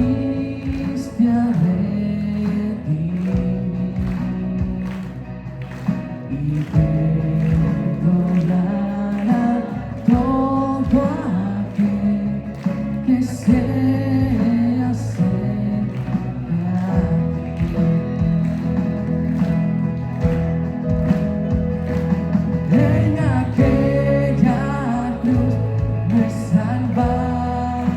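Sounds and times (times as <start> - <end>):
person singing: 0.0 - 4.7, 6.3 - 19.2, 22.6 - 27.9
live band playing: 0.0 - 27.9.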